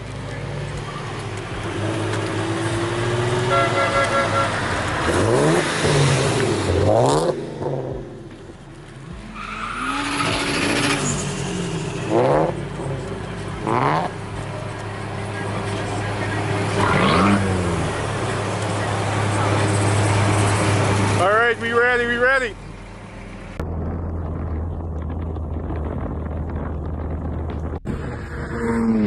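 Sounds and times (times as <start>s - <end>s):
engine revving: 0.0s - 8.2s, 9.7s - 22.4s, 23.6s - 29.0s
car engines idling: 0.0s - 29.0s.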